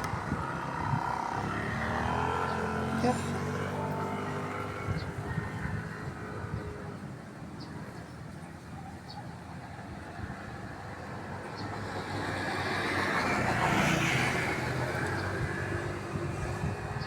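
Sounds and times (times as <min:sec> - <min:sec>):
motor vehicle passing by: 0:00.0 - 0:07.0, 0:10.2 - 0:17.0.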